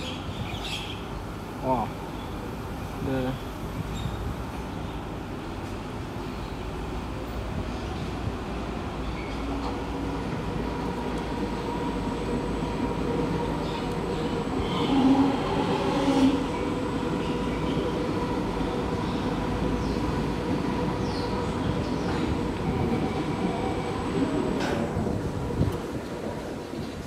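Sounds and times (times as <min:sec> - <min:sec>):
train hum: 0:00.0 - 0:27.0
train wheels rumbling on rail: 0:00.0 - 0:27.0.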